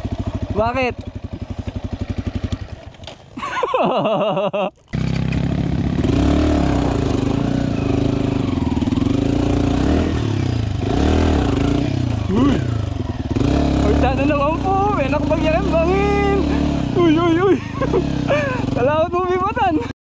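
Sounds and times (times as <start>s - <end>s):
dirt bike engine idling and revving: 0.0s - 4.0s, 4.8s - 19.9s.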